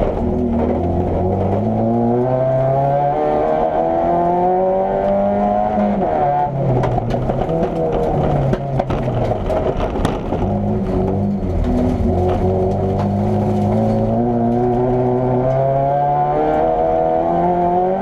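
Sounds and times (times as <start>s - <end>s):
car engine revving through gears: 0.0s - 18.0s.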